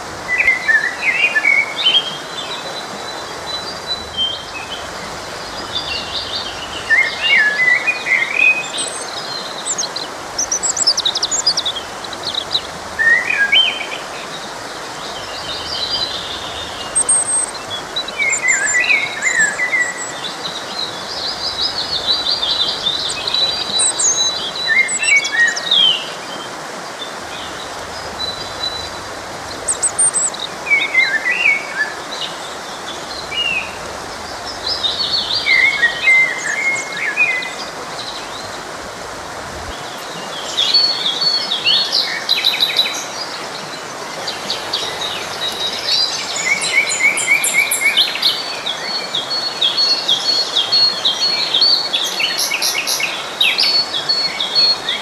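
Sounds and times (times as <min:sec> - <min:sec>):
stream rushing: 0:00.0 - 0:55.0
songbirds chirping and singing: 0:00.2 - 0:55.0.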